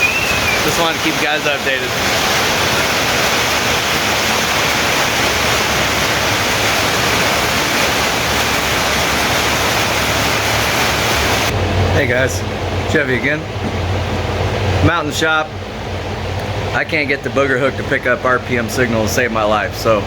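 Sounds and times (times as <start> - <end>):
heavy rain downpour: 0.0 - 20.0.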